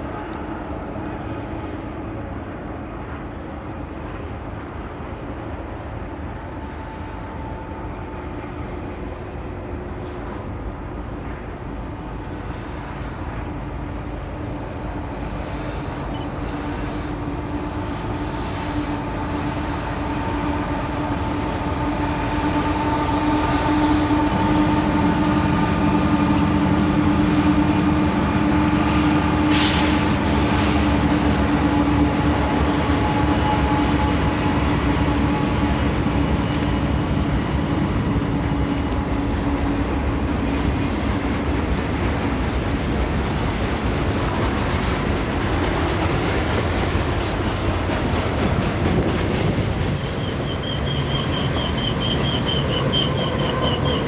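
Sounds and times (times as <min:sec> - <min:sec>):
diesel locomotives running: 0:00.0 - 0:54.0.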